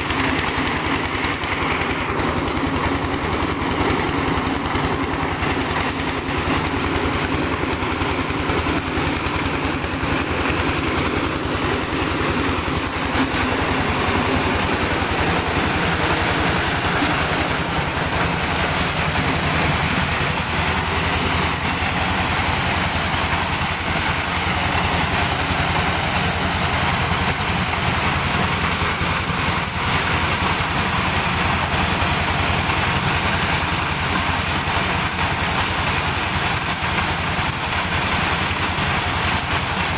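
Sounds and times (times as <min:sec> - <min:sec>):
diesel engine running under load: 0:00.0 - 0:39.9
threshing drum rattling: 0:00.0 - 0:39.9.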